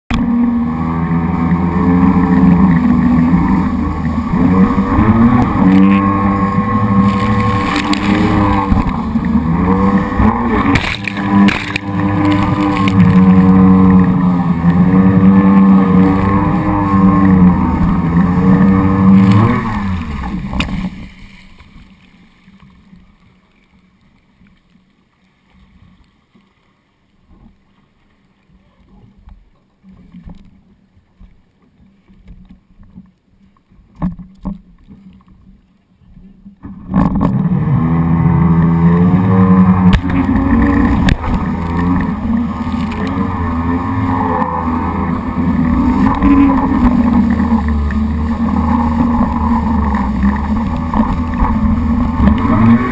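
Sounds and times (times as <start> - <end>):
jet ski engine: 0.1 - 52.9
water splashing against hull: 0.1 - 52.9.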